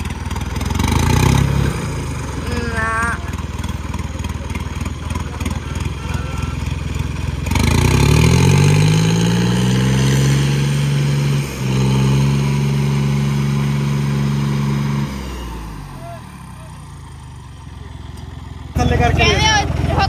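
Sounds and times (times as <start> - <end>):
diesel tractor engines at full throttle: 0.0 - 20.0.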